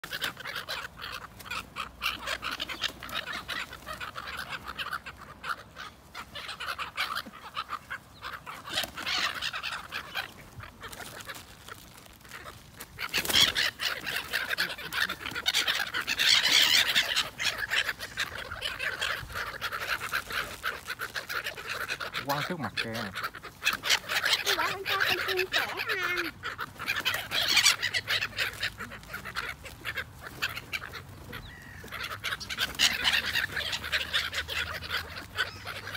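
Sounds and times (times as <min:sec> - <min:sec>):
birds giving harsh calls: 0:00.0 - 0:35.9.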